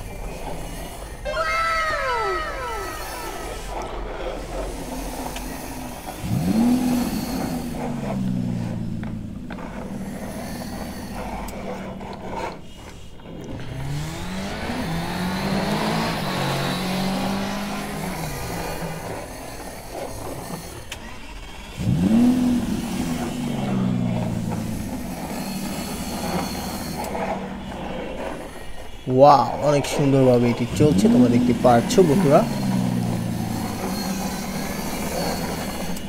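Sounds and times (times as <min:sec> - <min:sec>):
toy vehicle engine revving: 0:00.0 - 0:36.0.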